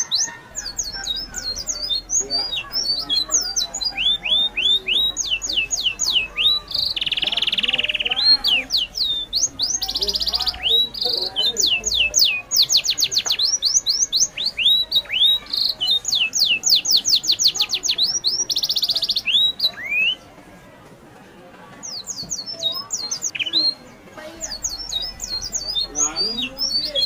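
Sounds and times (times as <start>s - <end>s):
buzzy bird calls: 0.0s - 20.2s, 21.8s - 27.0s
birds whistling: 0.0s - 20.3s, 21.8s - 27.0s.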